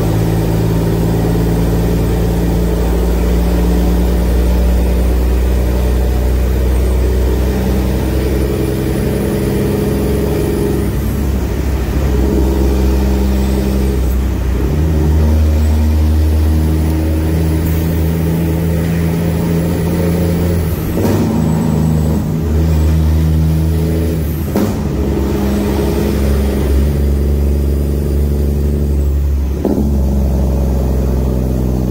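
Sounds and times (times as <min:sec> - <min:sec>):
diesel truck engine running: 0:00.0 - 0:31.9
loud exhaust: 0:00.0 - 0:31.9.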